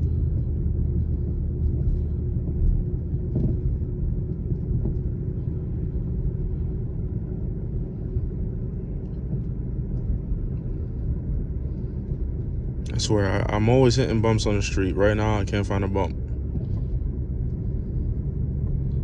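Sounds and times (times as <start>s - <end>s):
faint steady hum: 0.0s - 19.0s
road rumble inside car cabin: 0.0s - 19.0s.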